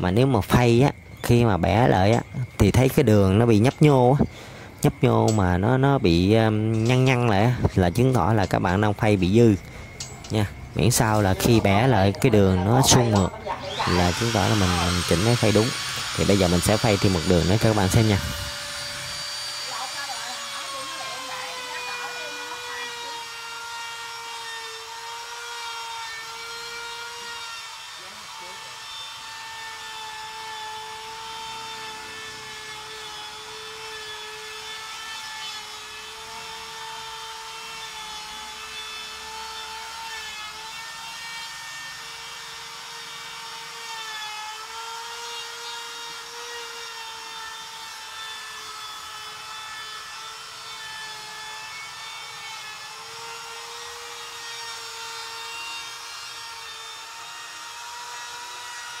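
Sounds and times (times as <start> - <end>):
electric router whining: 0.0 - 59.0.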